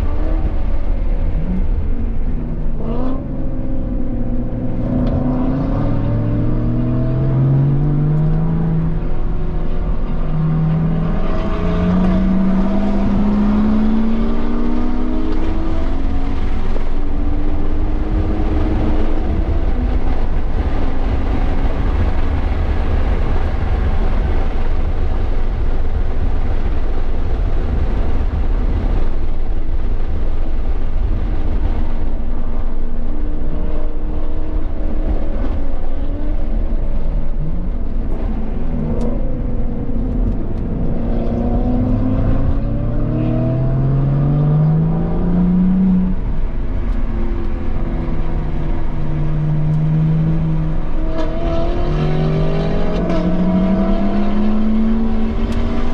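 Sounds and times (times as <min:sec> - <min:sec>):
car engine accelerating hard: 0:00.0 - 0:55.9
wind and road noise: 0:00.0 - 0:55.9.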